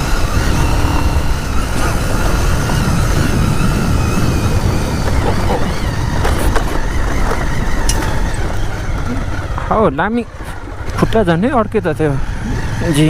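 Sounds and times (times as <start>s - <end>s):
motorcycle engine running: 0.0s - 13.0s
wind rumbling on microphone: 0.0s - 13.0s.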